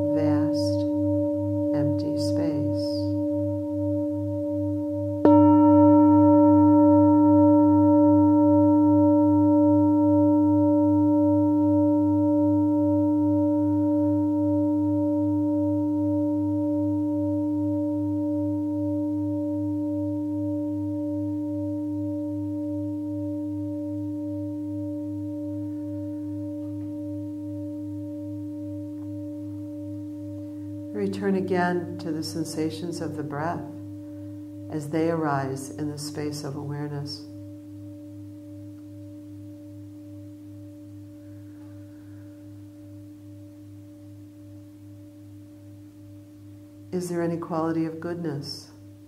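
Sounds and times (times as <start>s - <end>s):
singing bowl ringing: 0.0s - 49.0s.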